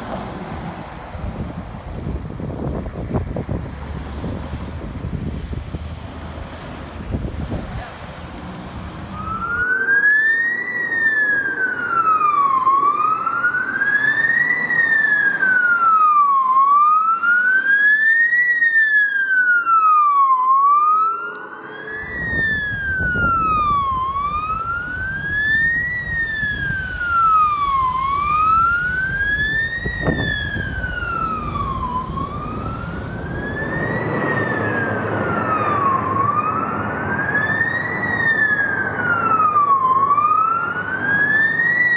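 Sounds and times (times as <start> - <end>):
fire truck siren wailing: 0.0 - 41.9.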